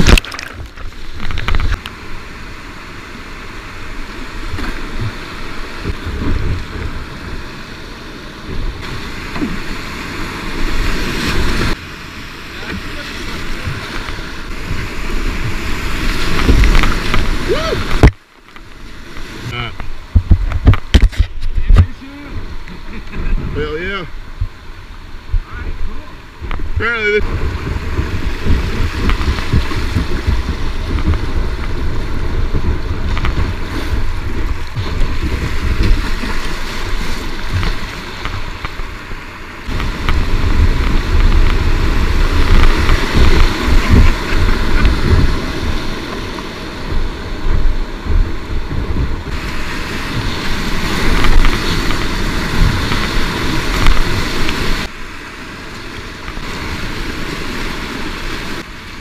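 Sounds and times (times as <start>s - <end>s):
wind buffeting microphone: 0.0s - 55.0s
whitewater rushing and splashing: 0.0s - 59.0s.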